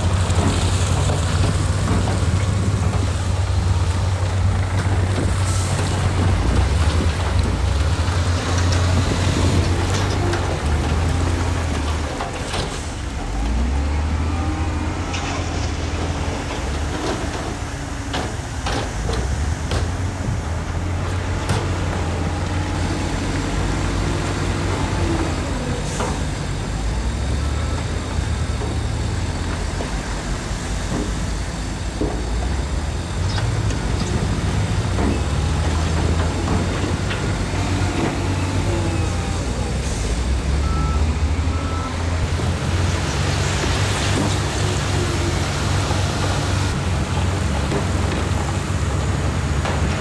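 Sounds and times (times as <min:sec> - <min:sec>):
heavy machinery diesel engines: 0:00.0 - 0:50.0.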